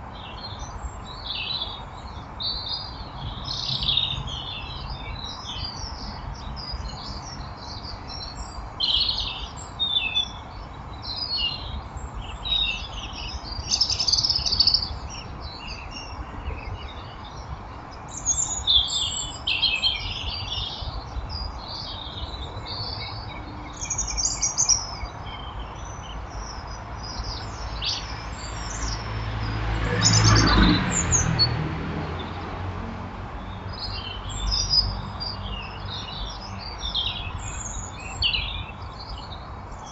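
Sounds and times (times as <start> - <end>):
small birds chirping: 0.0 - 32.6, 33.3 - 39.9.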